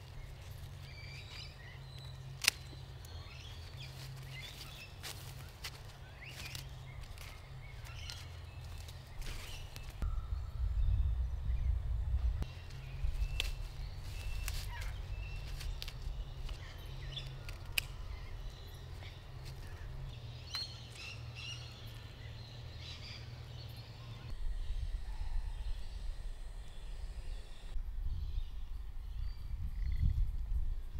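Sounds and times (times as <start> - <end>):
birds chirping and calling: 0.0 - 11.8, 12.4 - 30.3
steady low rumble: 0.0 - 30.9.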